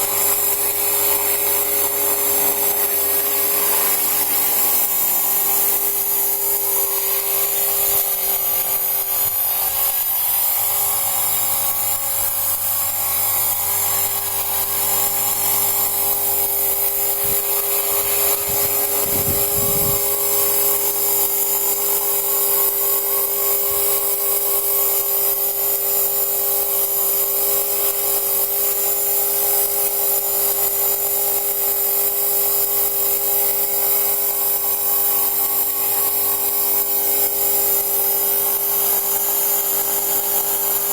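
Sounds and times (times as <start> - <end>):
model aircraft motor whining: 0.0 - 40.9.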